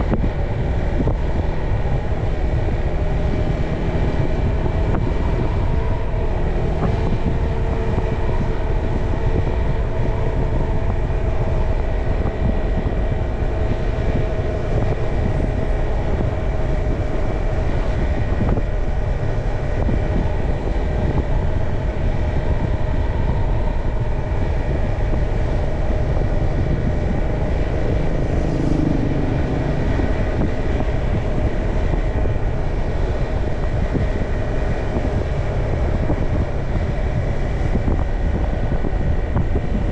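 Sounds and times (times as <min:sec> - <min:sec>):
motorcycle engine running: 0:00.0 - 0:39.9
road and air noise: 0:00.0 - 0:39.9.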